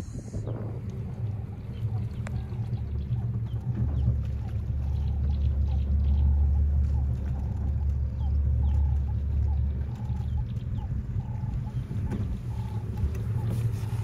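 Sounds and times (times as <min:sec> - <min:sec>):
outboard motor running: 0:00.0 - 0:14.0
bird chirps: 0:01.6 - 0:07.5, 0:08.1 - 0:14.0.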